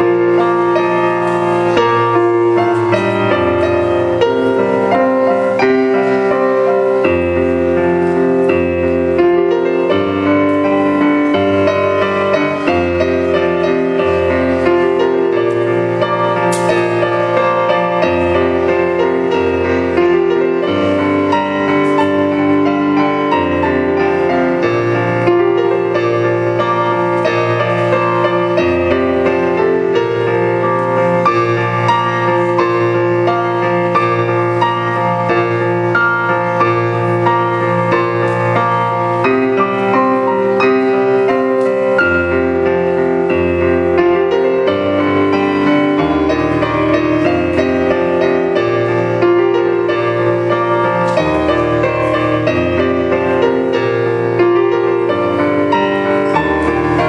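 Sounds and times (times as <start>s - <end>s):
solo piano playing: 0.0s - 57.0s.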